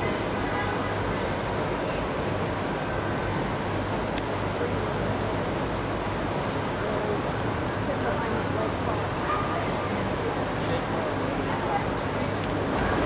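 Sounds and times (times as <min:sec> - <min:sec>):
cars idling in slow traffic: 0:00.0 - 0:13.0.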